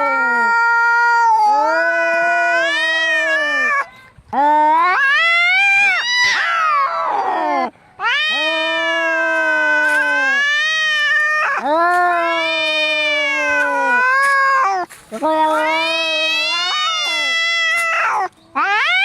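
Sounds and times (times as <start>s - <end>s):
cats caterwauling: 0.0s - 19.0s.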